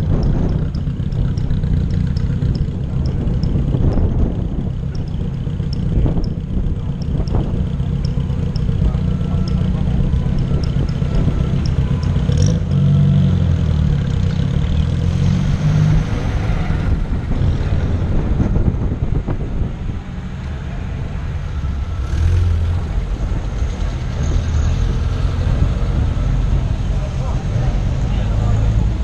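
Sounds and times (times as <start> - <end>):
cars driving slowly past: 0.0 - 29.0.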